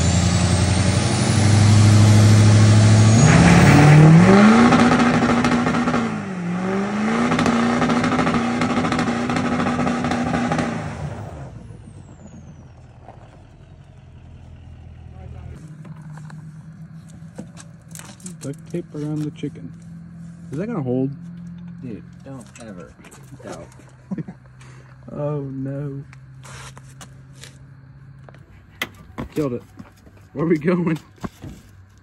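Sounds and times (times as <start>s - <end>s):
diesel engine revving: 0.0s - 28.2s.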